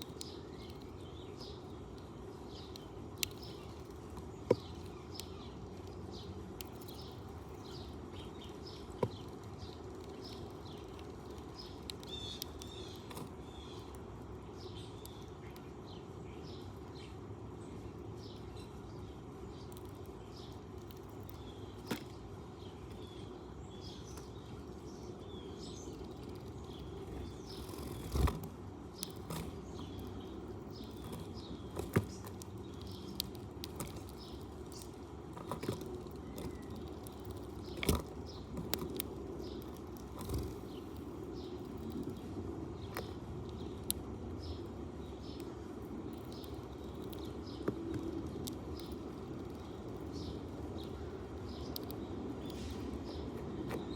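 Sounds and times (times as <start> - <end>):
outdoor background noise: 0.0 - 53.9
sparrows chirping: 0.0 - 53.9.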